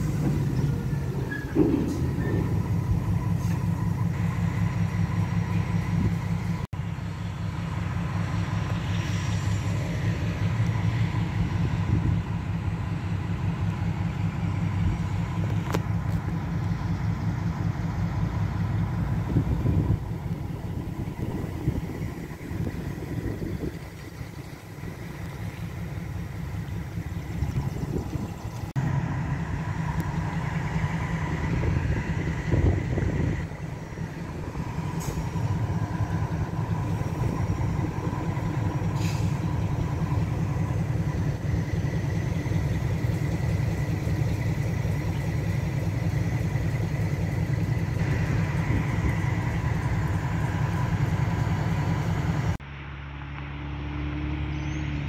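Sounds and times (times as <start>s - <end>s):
diesel locomotive droning: 0.0s - 55.0s.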